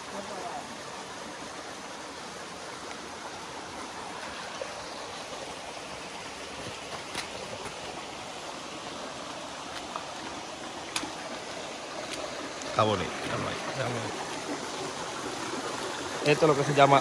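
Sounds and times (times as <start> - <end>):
creek water running over rocks: 0.0 - 17.0.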